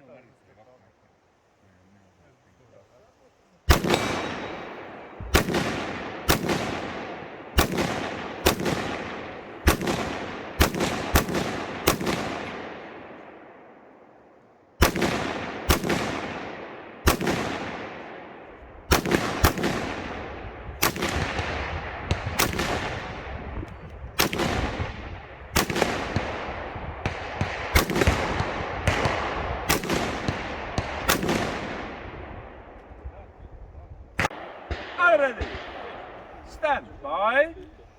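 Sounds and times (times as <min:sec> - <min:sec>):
rifle shots with rolling echo: 0:03.7 - 0:37.5.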